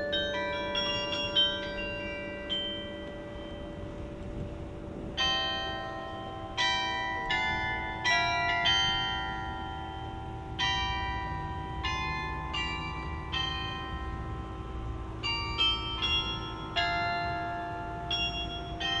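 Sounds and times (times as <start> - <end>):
tower bells ringing: 0.0 - 19.0.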